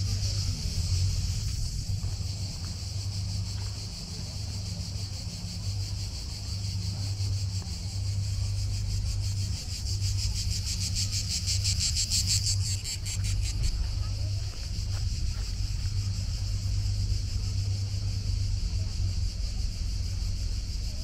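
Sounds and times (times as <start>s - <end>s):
shrill insect chorus buzzing: 0.0s - 21.0s.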